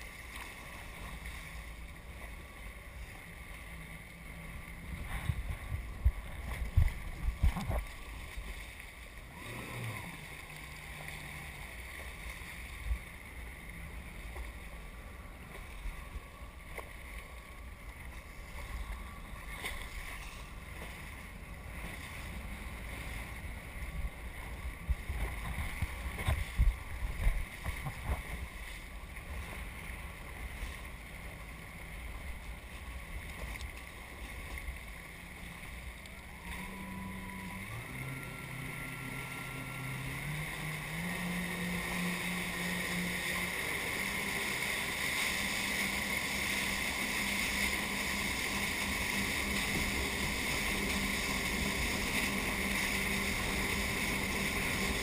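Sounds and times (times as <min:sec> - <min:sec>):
hull thumping on waves: 0:00.0 - 0:17.2, 0:18.0 - 0:55.0
jet ski engine drone: 0:00.0 - 0:55.0.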